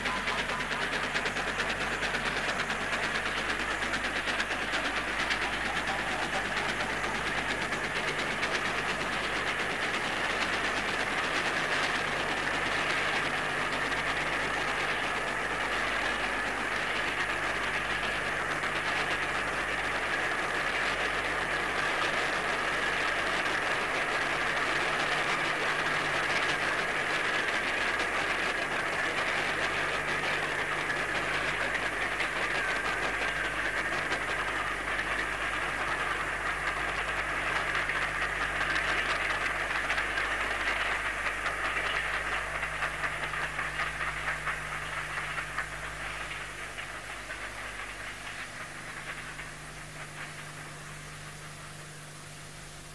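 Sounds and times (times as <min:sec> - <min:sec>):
low steady hum: 0:00.0 - 0:52.9
train running: 0:00.0 - 0:52.9.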